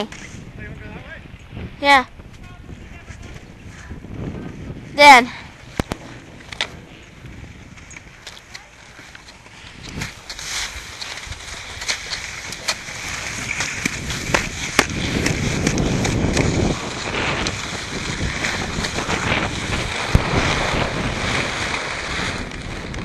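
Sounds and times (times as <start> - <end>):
wind buffeting microphone: 0.0 - 23.0
snowboard scraping over snow: 2.8 - 23.0.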